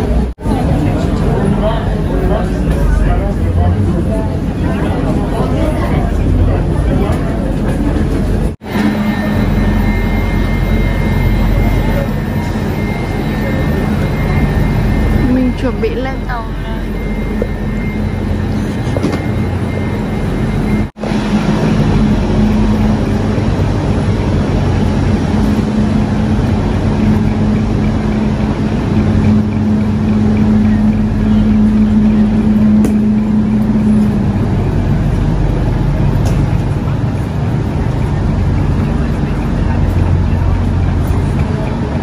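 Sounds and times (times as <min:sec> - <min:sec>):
station hall noise: 0:00.0 - 0:42.0
train humming at platform: 0:00.0 - 0:42.0.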